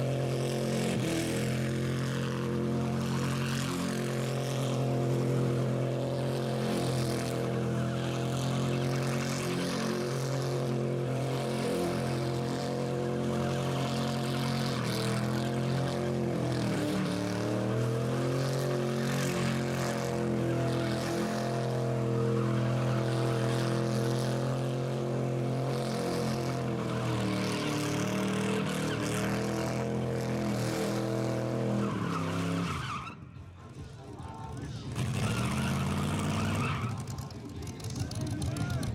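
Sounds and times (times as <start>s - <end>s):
engine at high revs: 0.0s - 32.7s, 34.8s - 38.9s
spinning tires hissing: 0.0s - 33.2s, 34.9s - 38.8s.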